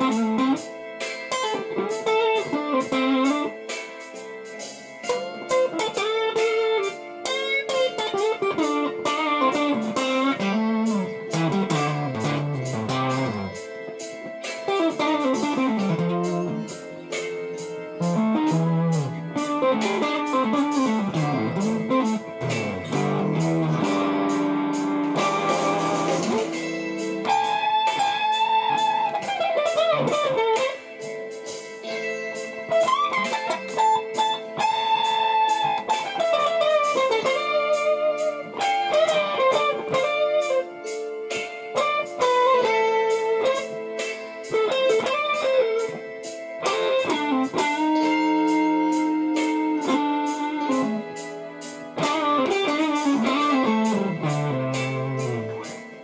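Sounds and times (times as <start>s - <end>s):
electric guitar playing slow blues: 0.0s - 56.0s.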